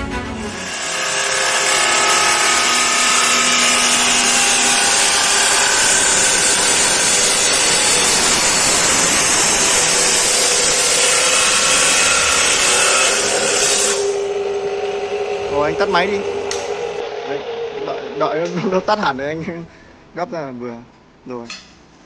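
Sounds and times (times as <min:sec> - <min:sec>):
cut-off saw grinding steel: 0:00.0 - 0:18.8.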